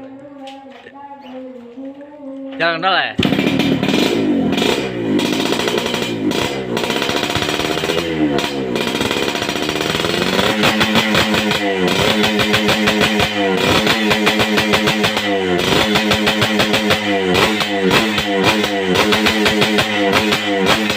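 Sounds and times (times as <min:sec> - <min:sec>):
two-stroke motorcycle engine revving: 0:03.2 - 0:20.9.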